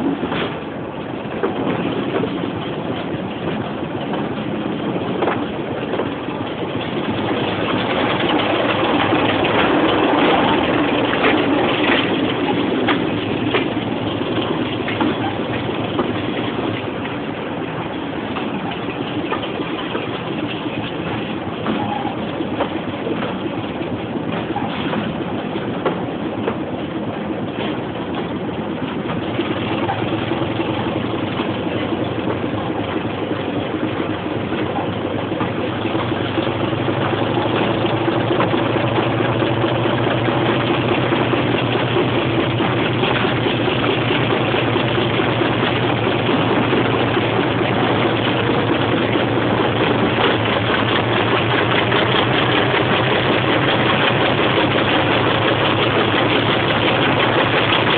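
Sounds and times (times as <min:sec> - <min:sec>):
diesel locomotive engine working hard: 0:00.0 - 0:57.9
train running noise: 0:00.0 - 0:57.9.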